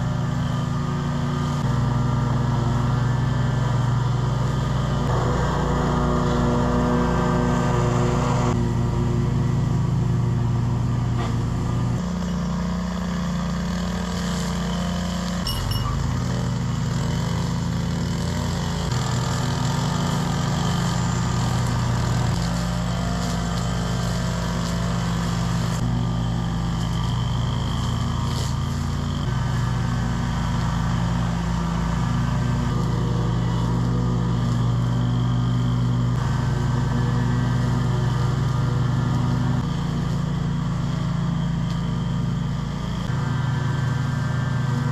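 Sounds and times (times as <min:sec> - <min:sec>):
mower engine running: 0:00.0 - 0:44.9.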